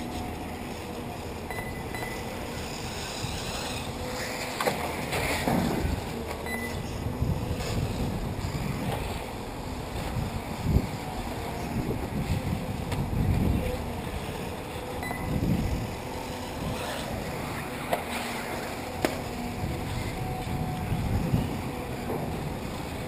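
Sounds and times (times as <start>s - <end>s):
whine of rc buggies racing: 0.0s - 23.0s
wind buffeting microphone: 0.0s - 23.0s.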